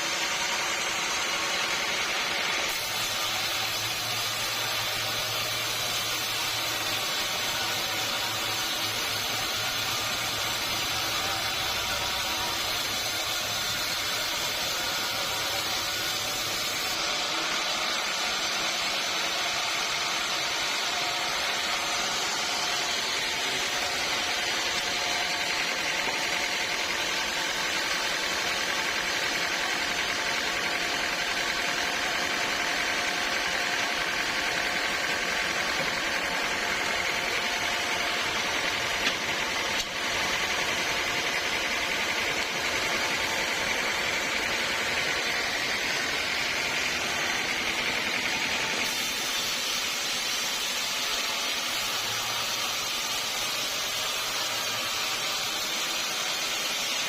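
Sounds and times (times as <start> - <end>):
sawmill machinery hum and whine: 0.0 - 57.0.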